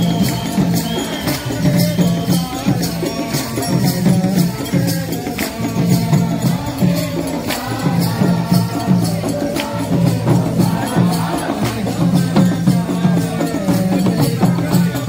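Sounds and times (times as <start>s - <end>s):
percussion ticks: 0.0s - 15.0s.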